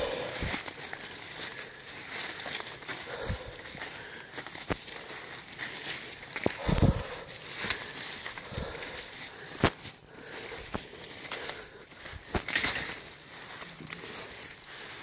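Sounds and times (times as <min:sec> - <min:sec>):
footsteps through leaf litter: 0:00.0 - 0:15.0
twigs snapping: 0:00.0 - 0:15.0.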